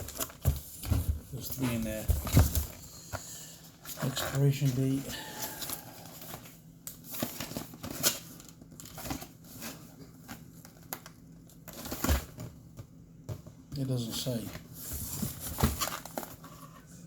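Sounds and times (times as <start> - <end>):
packaging crinkling and rustling: 0.0 - 3.2, 3.8 - 12.8, 14.0 - 16.9.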